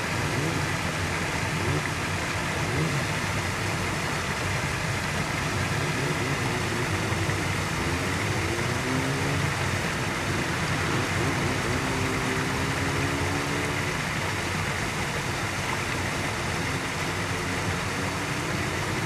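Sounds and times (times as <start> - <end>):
river water rushing: 0.0 - 19.0
road traffic drone: 0.0 - 19.0.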